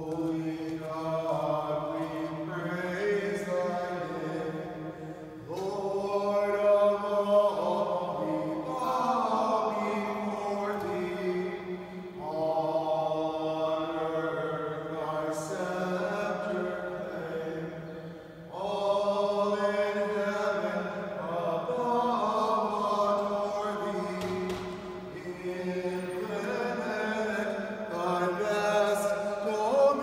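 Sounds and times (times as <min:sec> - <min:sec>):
hymn sung in long notes: 0:00.0 - 0:30.0.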